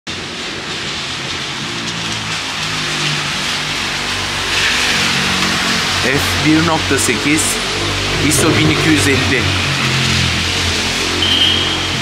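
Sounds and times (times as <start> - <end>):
low vehicle drone: 0.1 - 12.0
tyres on wet asphalt: 0.1 - 12.0
car approaching: 0.2 - 12.0
rain hissing: 2.3 - 12.0.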